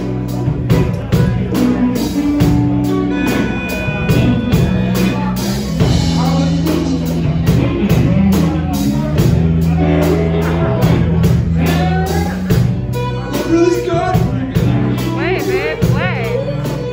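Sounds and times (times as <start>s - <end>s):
blues band playing: 0.0s - 16.9s.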